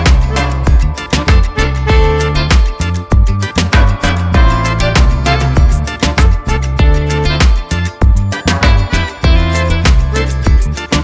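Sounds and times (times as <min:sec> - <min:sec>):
funk reggae music: 0:00.0 - 0:11.0.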